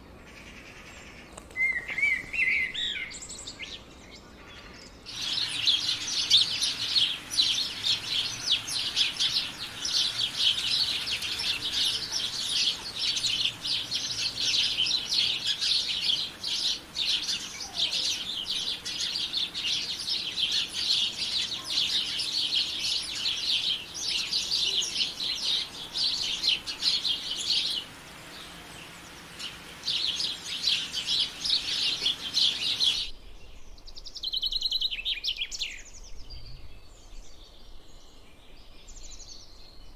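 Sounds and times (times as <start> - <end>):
songbird twittering song: 0.0 - 39.9.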